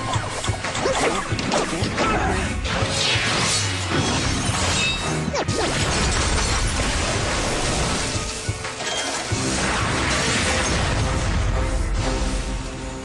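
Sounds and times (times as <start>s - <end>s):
dramatic background music: 0.0s - 13.0s.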